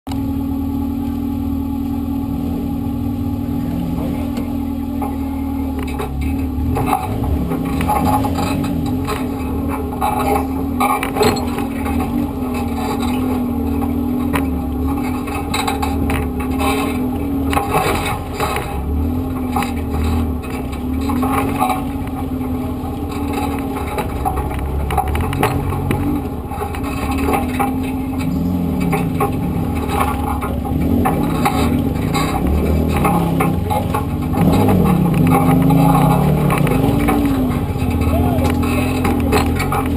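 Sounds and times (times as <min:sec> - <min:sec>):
engine running at low revs: 0:00.1 - 0:39.9
knocks and scrapes: 0:03.6 - 0:39.9.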